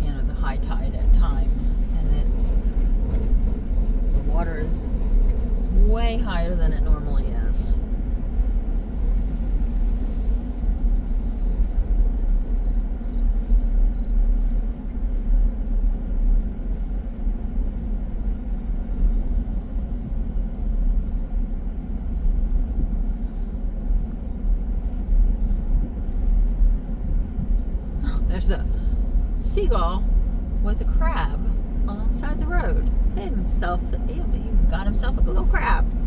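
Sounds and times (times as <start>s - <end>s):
car driving rumble: 0.0s - 36.0s
wind noise: 0.0s - 36.0s.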